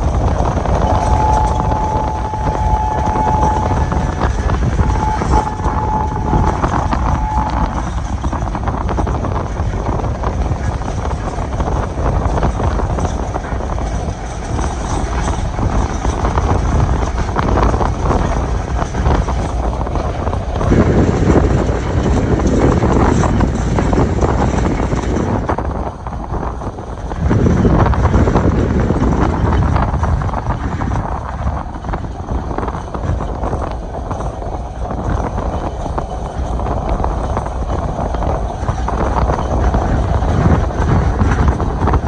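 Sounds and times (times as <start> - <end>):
train wheels rumbling on rail: 0.0 - 42.0
wind noise: 0.0 - 42.0.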